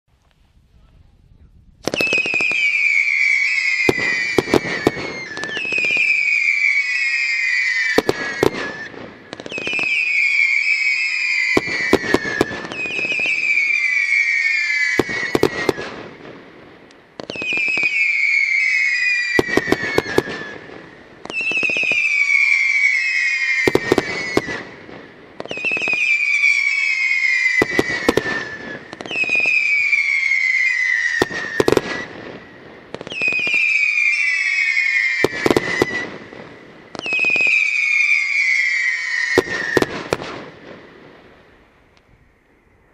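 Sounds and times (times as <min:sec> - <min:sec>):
falling firework whistle: 0:01.8 - 0:16.5, 0:17.2 - 0:41.2
firework cracks: 0:01.8 - 0:42.6.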